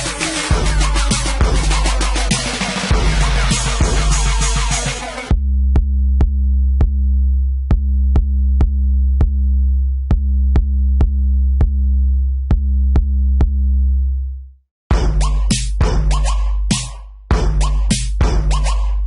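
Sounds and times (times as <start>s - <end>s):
beatbox deep bass tone: 0.0s - 13.6s, 14.9s - 19.0s.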